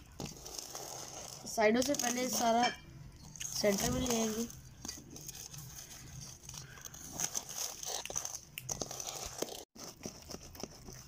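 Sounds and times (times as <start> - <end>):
spatula scraping batter in pot: 0.0 - 11.0.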